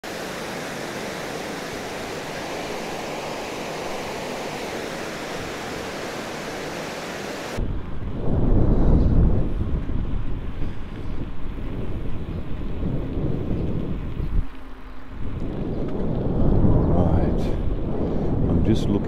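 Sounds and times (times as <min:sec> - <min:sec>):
steady rushing hiss: 0:00.0 - 0:19.0
low wind buffeting microphone: 0:00.1 - 0:19.0.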